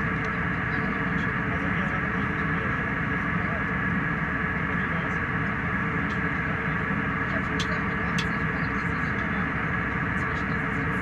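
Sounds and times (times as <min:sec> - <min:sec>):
airliner cabin jet noise: 0:00.0 - 0:11.0.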